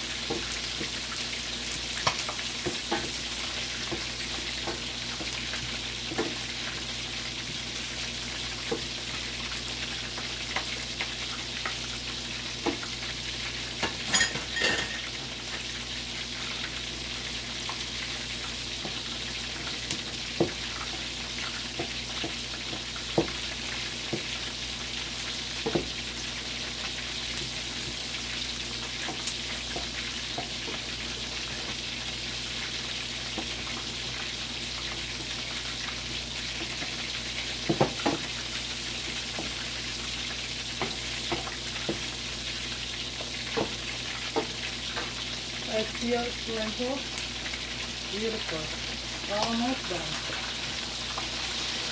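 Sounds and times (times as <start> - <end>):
chicken frying in oil: 0.0 - 51.9.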